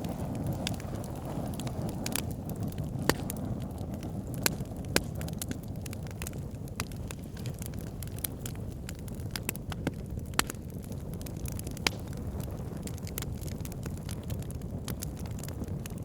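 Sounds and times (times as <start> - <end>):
fire popping and snapping: 0.0 - 16.0
flames rumbling: 0.0 - 16.0.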